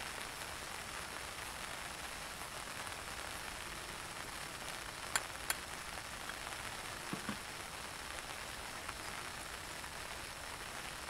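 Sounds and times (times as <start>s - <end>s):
rain on a tarp: 0.0s - 11.0s.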